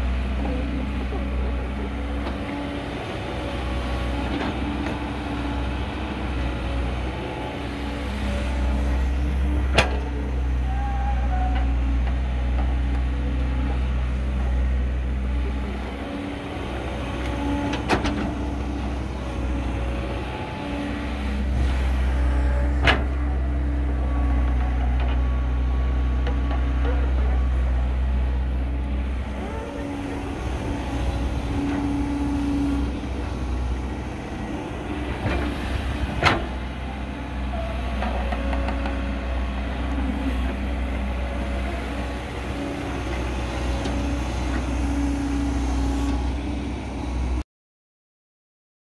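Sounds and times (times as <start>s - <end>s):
excavator diesel engine drone: 0.0s - 47.4s
hydraulic whine: 0.0s - 47.4s.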